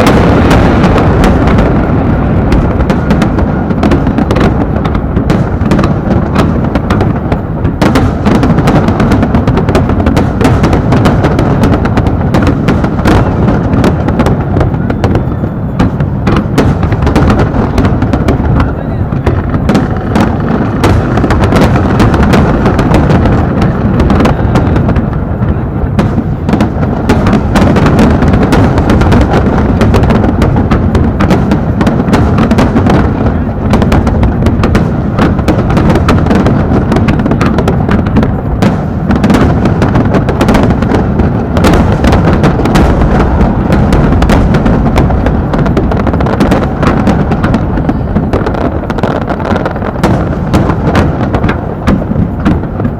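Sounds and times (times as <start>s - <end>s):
fireworks booms and cracks: 0.0s - 52.9s.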